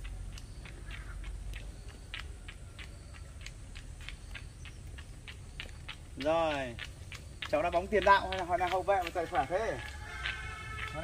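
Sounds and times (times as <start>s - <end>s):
footsteps running on wet pavement: 0.0s - 11.0s.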